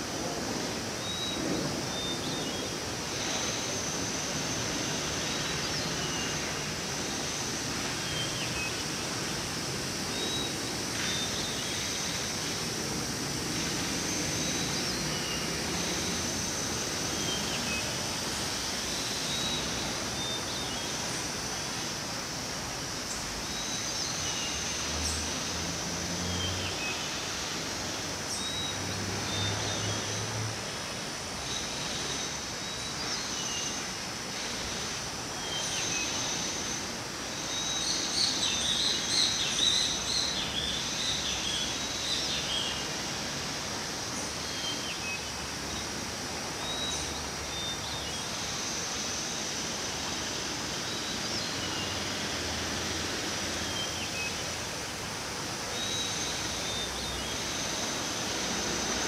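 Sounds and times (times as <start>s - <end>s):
high-pitched background hiss: 0.0s - 59.0s.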